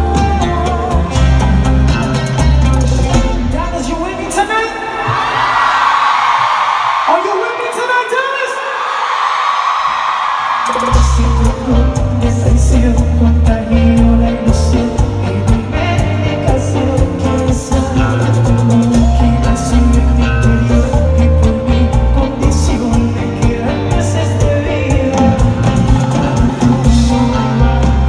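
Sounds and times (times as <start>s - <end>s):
live band playing: 0.0s - 5.4s, 10.7s - 28.0s.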